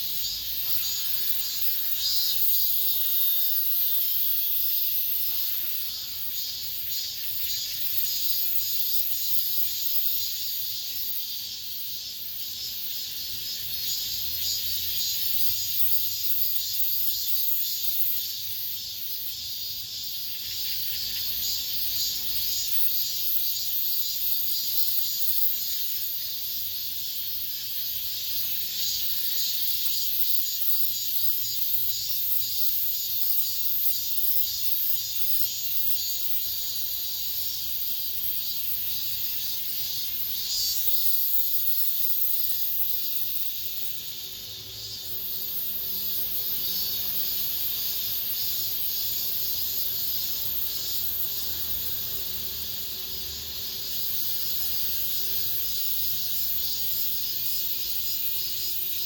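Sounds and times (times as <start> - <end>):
cicadas buzzing in chorus: 0.0 - 59.0.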